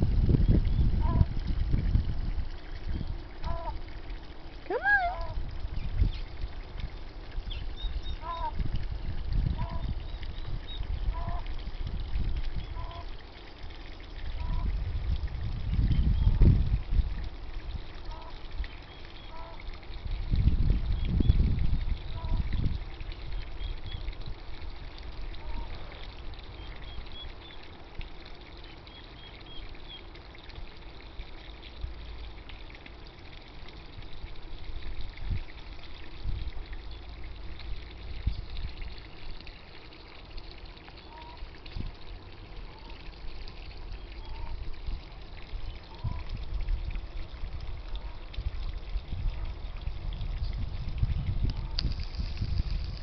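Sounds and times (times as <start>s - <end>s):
water trickling into pond: 0.0s - 53.0s.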